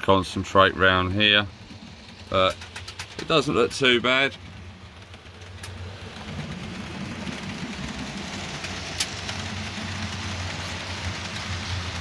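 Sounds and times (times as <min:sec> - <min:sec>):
model train rumbling: 0:00.0 - 0:12.0.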